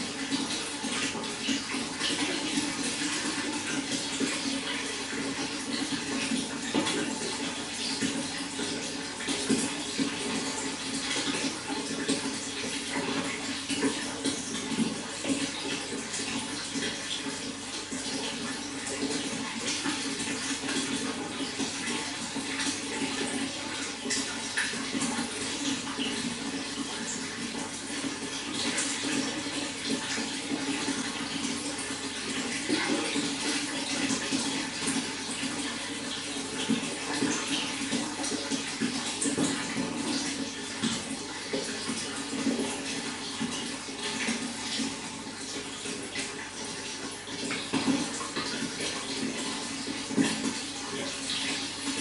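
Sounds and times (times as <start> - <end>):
running water splashing: 0.0 - 52.0.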